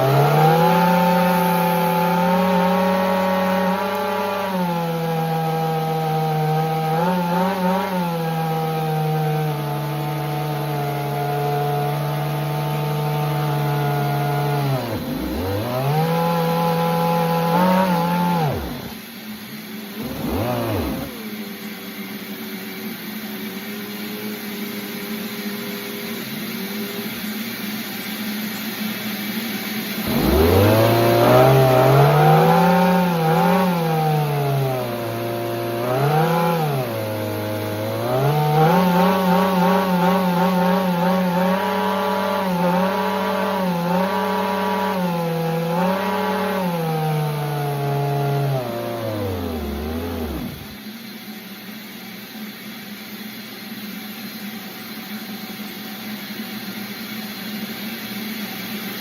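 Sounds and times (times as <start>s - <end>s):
small engine running: 0.0s - 51.6s.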